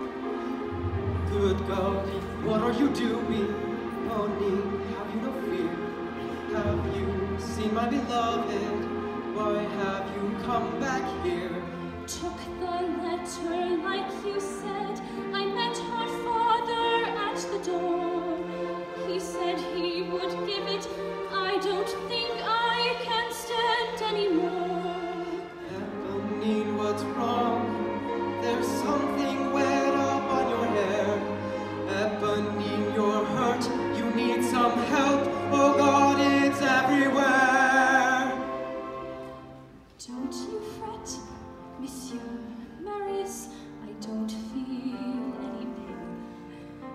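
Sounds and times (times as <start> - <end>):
orchestral strings and bass: 0.0 - 46.9.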